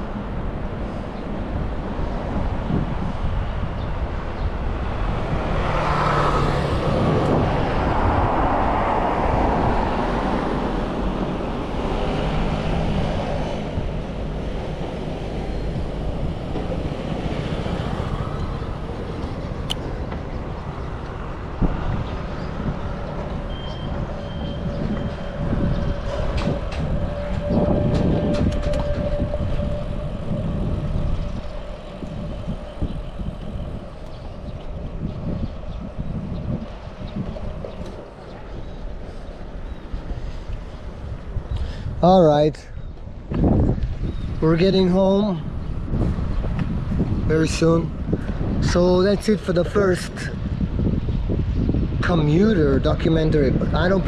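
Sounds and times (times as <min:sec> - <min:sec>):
bike road rumble: 0:00.0 - 0:54.0
motor vehicles passing: 0:00.0 - 0:54.0
wind noise: 0:00.0 - 0:54.0.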